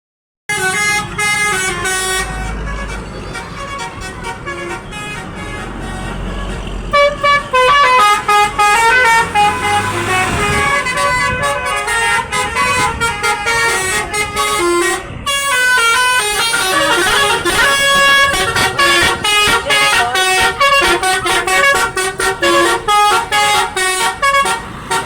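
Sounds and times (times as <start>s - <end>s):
multi-tone bus horn melody: 0.5s - 25.0s.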